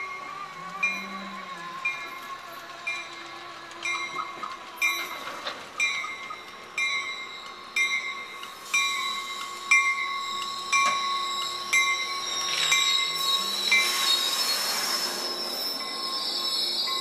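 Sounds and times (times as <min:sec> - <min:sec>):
train bell ringing: 0:00.0 - 0:17.0
train rumbling in: 0:00.0 - 0:17.0.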